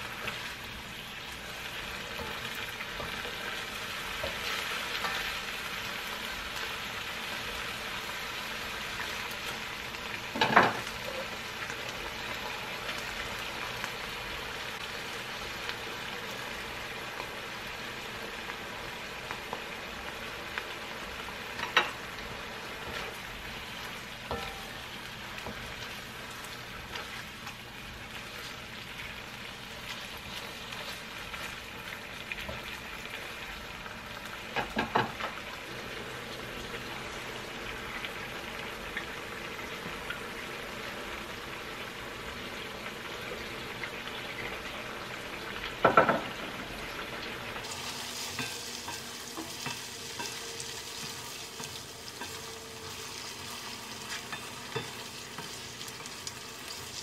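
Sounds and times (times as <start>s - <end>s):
chicken sizzling in sauce: 0.0s - 57.0s.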